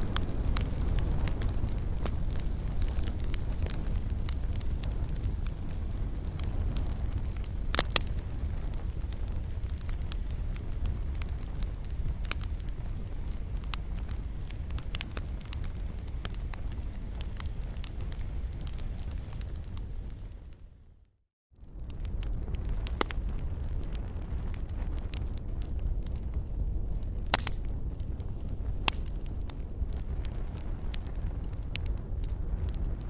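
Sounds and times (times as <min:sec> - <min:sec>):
fire popping and snapping: 0:00.0 - 0:20.8, 0:21.6 - 0:33.0
low rumble of flames: 0:00.0 - 0:33.0.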